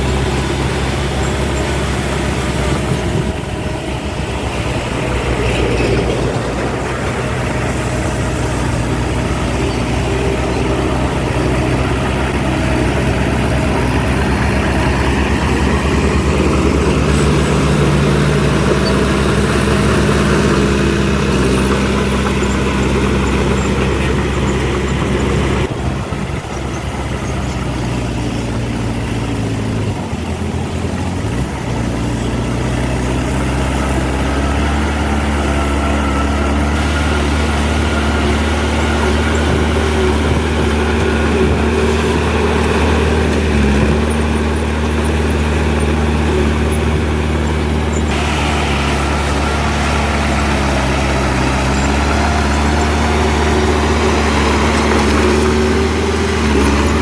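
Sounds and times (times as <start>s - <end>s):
diesel earthmoving machinery running: 0.0s - 57.0s.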